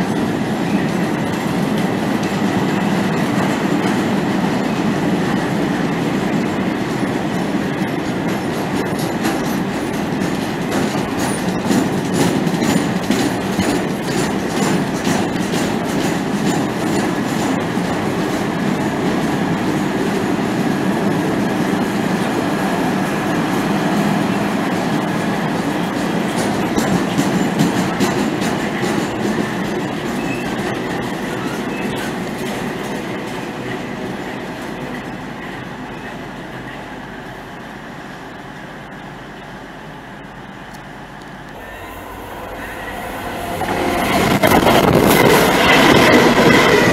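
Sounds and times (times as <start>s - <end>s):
train wheels clattering on rails: 0.0s - 39.6s, 42.3s - 46.9s.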